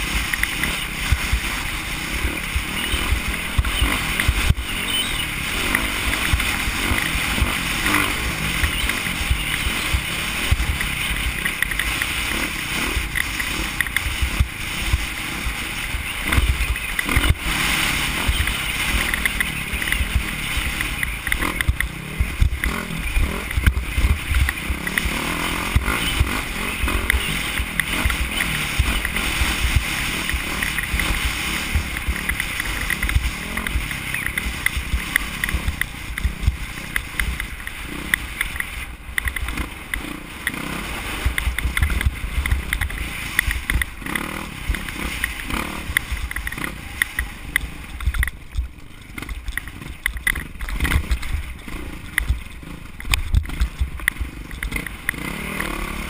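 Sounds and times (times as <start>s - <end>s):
knocks from rough trail: 0.0s - 56.0s
motorcycle engine running hard: 0.0s - 56.0s.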